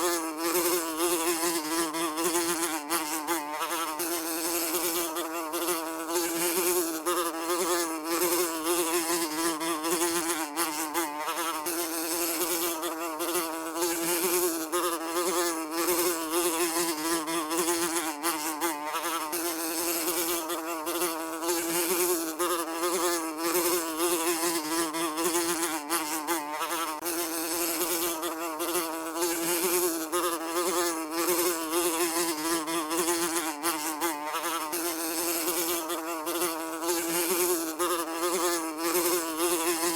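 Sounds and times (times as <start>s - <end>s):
housefly buzzing: 0.0s - 39.9s.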